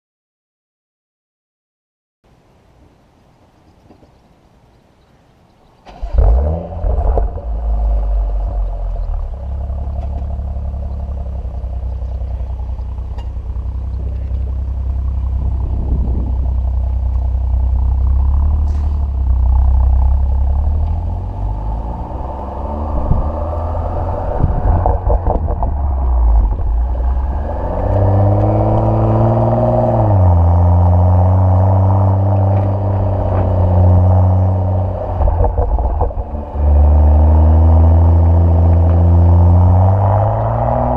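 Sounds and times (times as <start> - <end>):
car engine starting and revving: 5.8 - 40.9.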